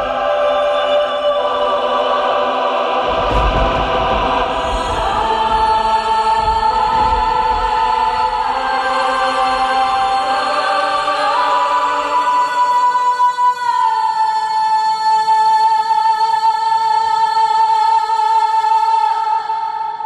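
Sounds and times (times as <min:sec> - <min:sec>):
choir-like voices holding notes: 0:00.0 - 0:20.0.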